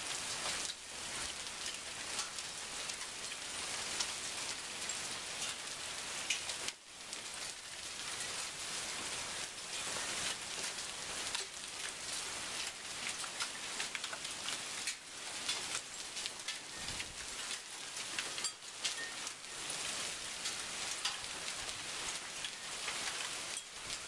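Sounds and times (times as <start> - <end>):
heavy rain pouring: 0.0 - 24.0
raindrops ticking on surfaces: 0.0 - 24.0.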